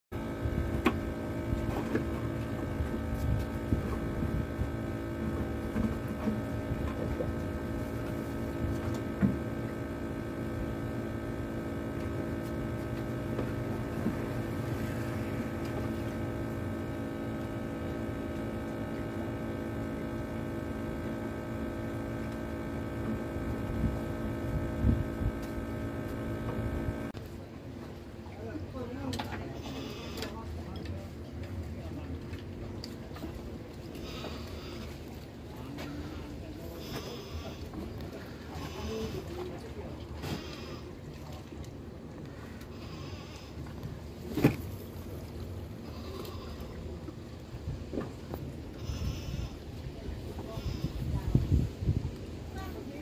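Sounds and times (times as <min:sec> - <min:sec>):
engine running steadily: 0:00.1 - 0:53.0.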